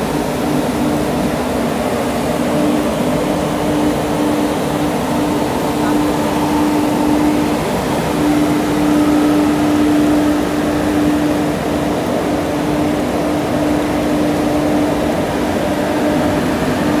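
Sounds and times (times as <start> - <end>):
locomotive mechanical hum: 0.0 - 17.0
rain: 0.0 - 17.0
rushing locomotives: 0.0 - 17.0.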